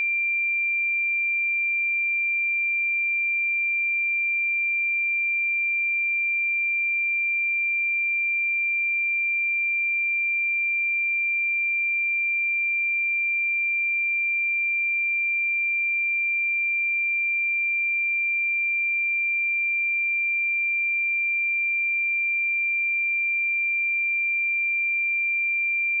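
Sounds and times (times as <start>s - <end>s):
sine wave test tone: 0.0s - 26.0s.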